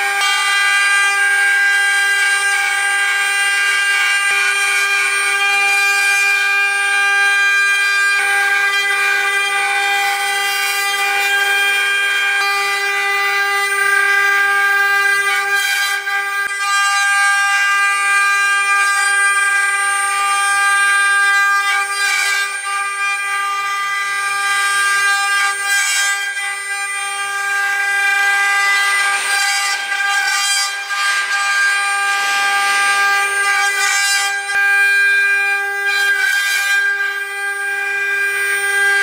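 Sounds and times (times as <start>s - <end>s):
cnc router spindles whining: 0.0s - 39.0s
router bits cutting wood: 0.0s - 39.0s.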